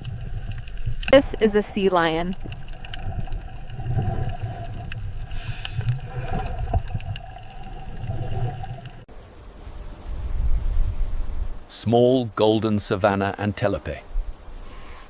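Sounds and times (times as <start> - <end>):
water background: 0.0 - 15.0.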